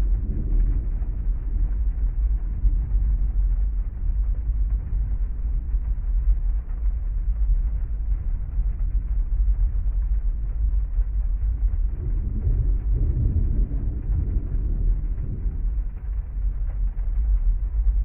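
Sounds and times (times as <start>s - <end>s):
heavy rain on a car: 0.0s - 18.0s.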